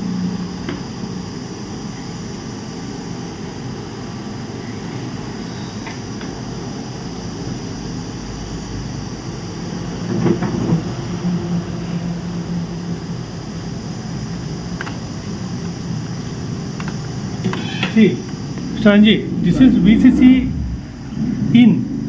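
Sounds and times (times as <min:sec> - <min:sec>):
low background hum and rumble: 0:00.0 - 0:22.0.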